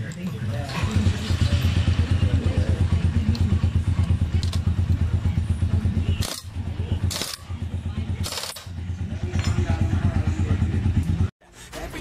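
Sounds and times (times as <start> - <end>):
motorcycle engine idling: 0.4 - 11.3.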